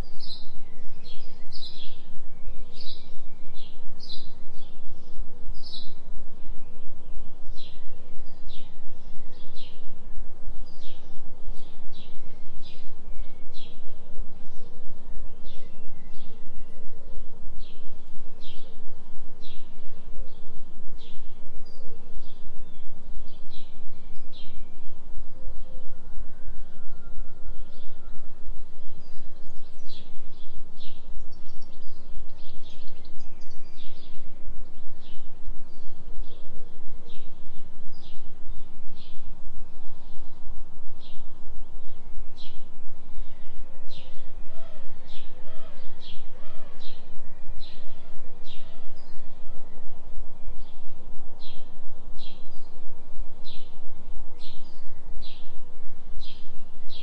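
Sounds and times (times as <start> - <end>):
faint wavering bird calls: 0.0 - 57.0
low pulsing synthesised tone: 0.0 - 57.0.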